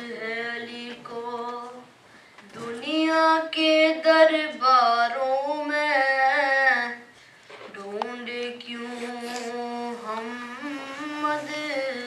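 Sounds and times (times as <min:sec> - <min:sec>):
boy singing unaccompanied: 0:00.0 - 0:01.9, 0:02.5 - 0:07.1, 0:07.7 - 0:12.0.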